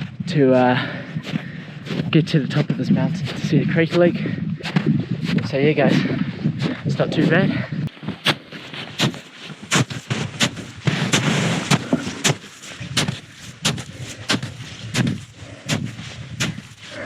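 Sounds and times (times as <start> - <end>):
hiker footsteps: 0.0 - 17.0.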